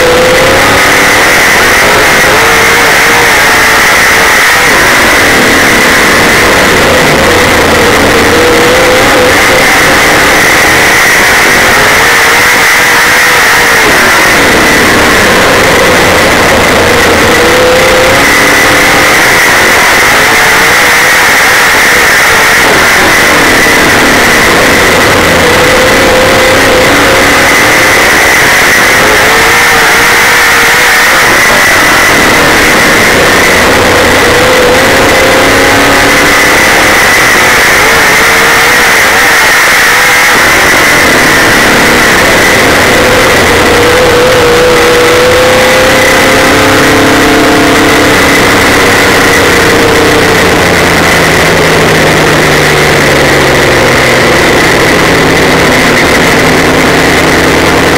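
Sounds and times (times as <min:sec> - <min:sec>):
race car engine roaring: 0:00.0 - 0:57.9.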